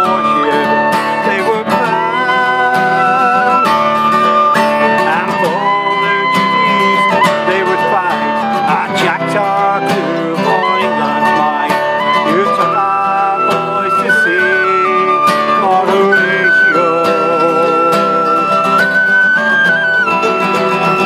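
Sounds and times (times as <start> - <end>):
man singing: 0.0 - 21.0
mandolin: 0.0 - 21.0
strummed acoustic guitar: 0.0 - 21.0
tin whistle melody: 0.0 - 21.0.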